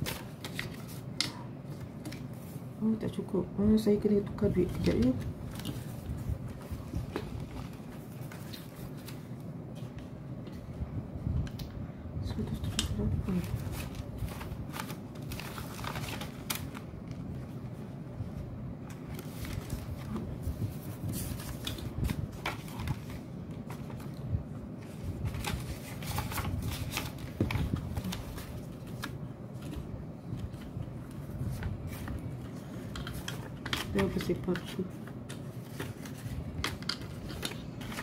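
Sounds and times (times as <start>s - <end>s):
banknotes and envelopes rustling: 0.0s - 2.9s, 4.1s - 10.7s, 12.3s - 38.0s
steady low hum: 0.0s - 38.0s.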